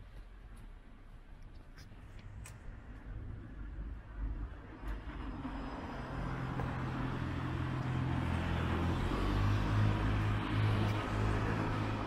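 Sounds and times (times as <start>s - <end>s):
car passing: 2.3s - 12.0s.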